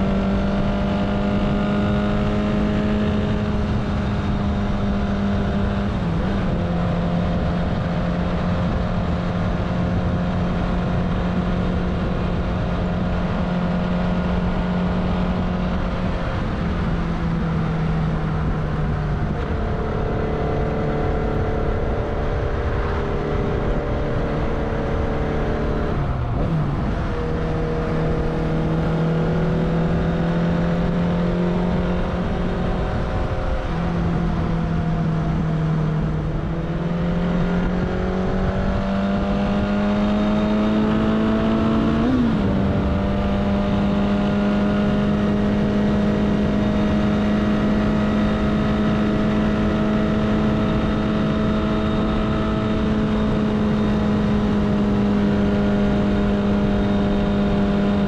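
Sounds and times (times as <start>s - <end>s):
motorcycle engine cruising: 0.0s - 58.0s
wind noise: 0.0s - 58.0s.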